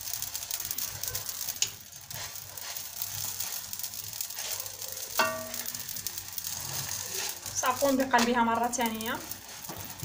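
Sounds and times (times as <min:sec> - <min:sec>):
flatbread sizzling in a pan: 0:00.0 - 0:10.0.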